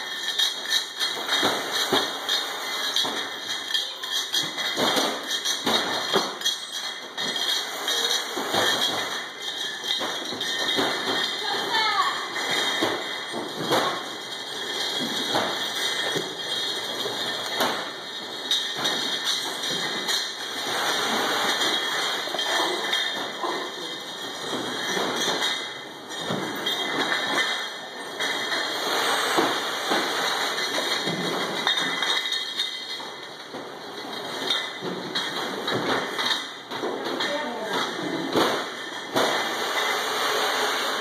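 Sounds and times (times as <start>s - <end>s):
glass bottles knocking and clinking: 0.0s - 41.0s.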